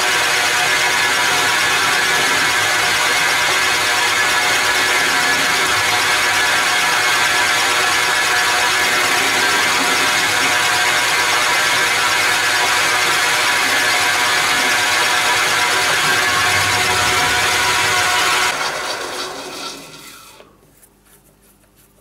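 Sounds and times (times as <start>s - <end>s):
lathe tool cutting metal: 0.0s - 20.4s
metal lathe gear whir and rattle: 0.0s - 20.5s.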